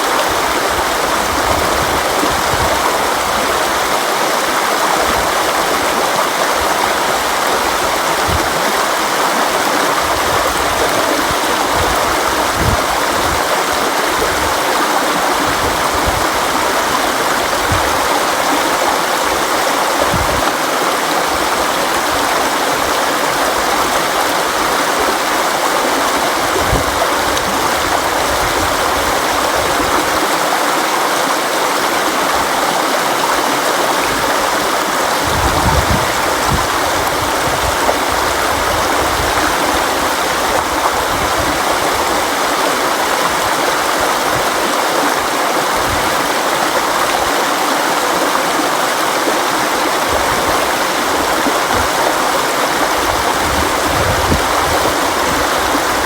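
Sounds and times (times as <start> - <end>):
river water rushing: 0.0 - 56.0
water gurgles and splashes: 0.0 - 56.0.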